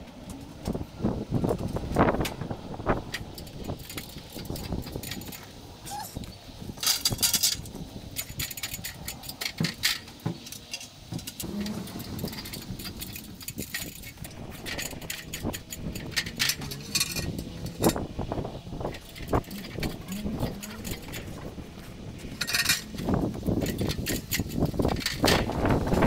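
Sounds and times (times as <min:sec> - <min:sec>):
metal scaffold parts clanking: 0:01.5 - 0:26.0.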